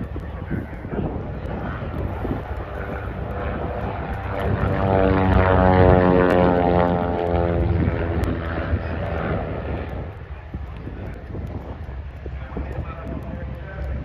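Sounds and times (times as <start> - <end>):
propeller plane passing overhead: 0.0 - 14.0.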